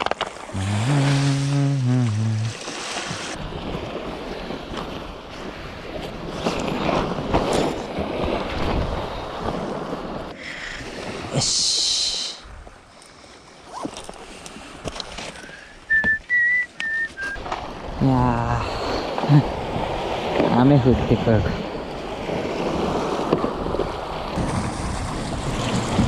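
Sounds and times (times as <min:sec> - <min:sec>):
sea rushing: 0:00.0 - 0:26.0
wind: 0:00.0 - 0:26.0.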